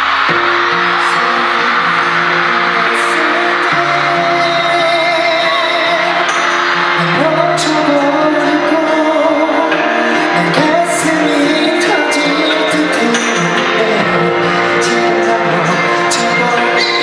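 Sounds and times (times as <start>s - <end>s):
backing music: 0.0s - 17.0s
man singing into microphone: 0.8s - 17.0s.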